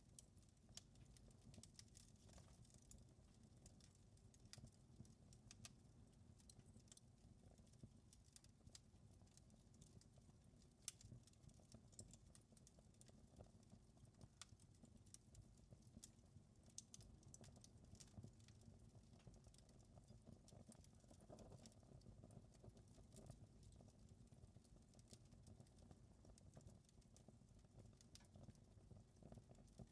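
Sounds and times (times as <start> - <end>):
faint wood fire crackling: 0.0 - 29.9.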